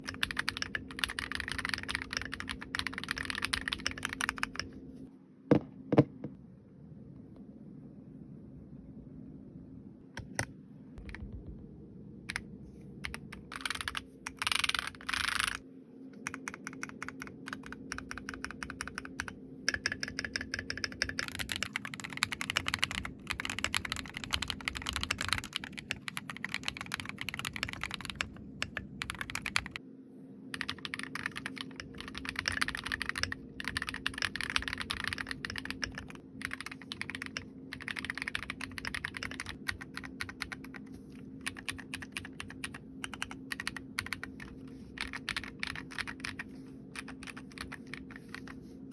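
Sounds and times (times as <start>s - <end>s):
mechanical keyboard typing: 0.0s - 4.8s, 12.3s - 15.6s, 16.2s - 29.8s, 30.6s - 48.6s.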